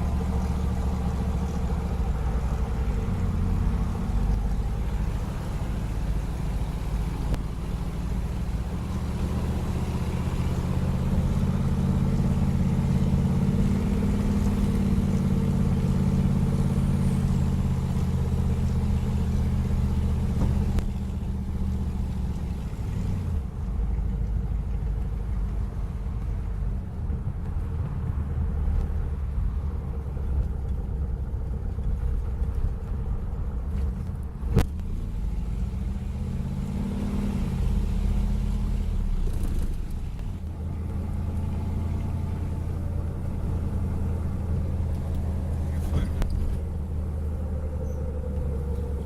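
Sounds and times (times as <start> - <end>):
car engine running: 0.0 - 49.0.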